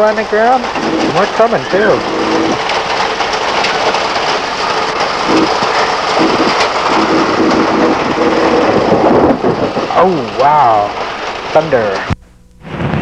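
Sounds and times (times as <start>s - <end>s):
hail and rain falling: 0.0s - 12.0s.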